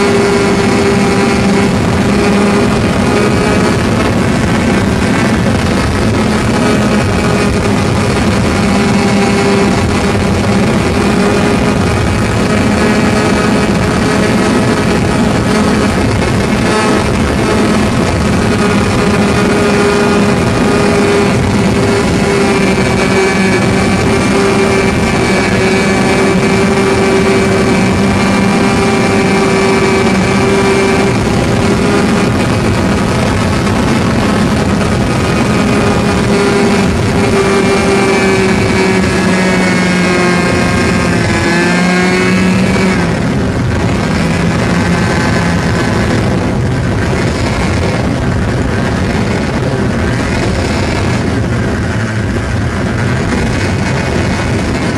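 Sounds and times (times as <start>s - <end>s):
model plane engine at high throttle: 0.0s - 54.9s.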